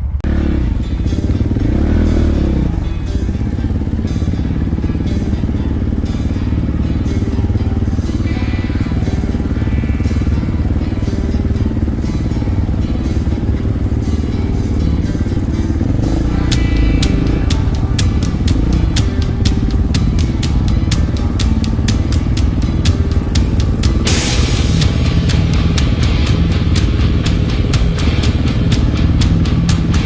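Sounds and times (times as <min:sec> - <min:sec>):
background music with steady beat: 0:00.0 - 0:30.0
dirt bike engine running: 0:00.0 - 0:30.0.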